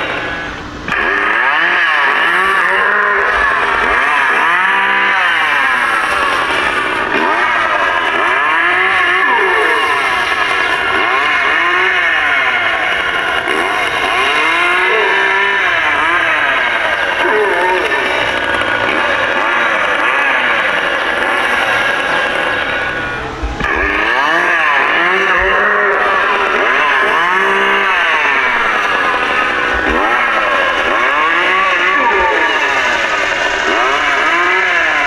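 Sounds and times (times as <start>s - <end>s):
recorded chainsaw engine revving: 0.0s - 35.0s.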